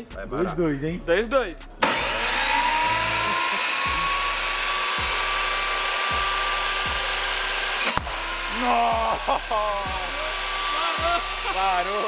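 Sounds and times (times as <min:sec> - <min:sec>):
table saw motor whining: 0:01.8 - 0:12.0.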